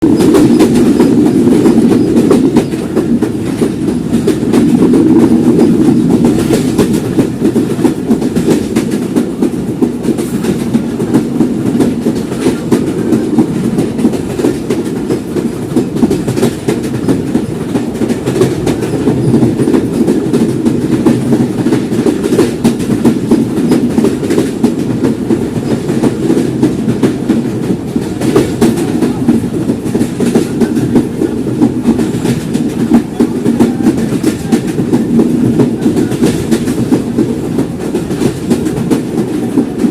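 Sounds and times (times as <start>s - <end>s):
track clicks and clacks: 0.0s - 39.9s
train wheels rumbling on rails: 0.0s - 39.9s.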